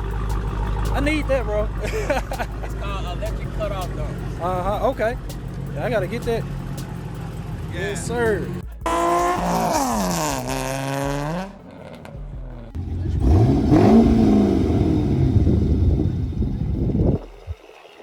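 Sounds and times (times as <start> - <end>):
car engine revving: 0.0 - 17.6.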